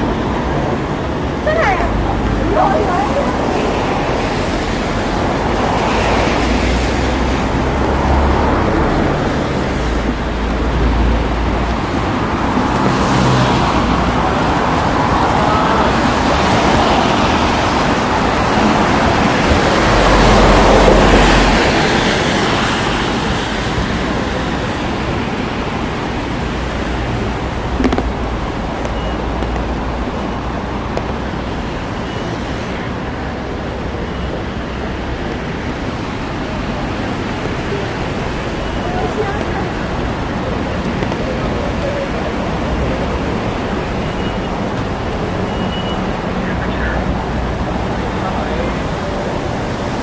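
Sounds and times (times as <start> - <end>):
city road traffic: 0.0 - 50.0.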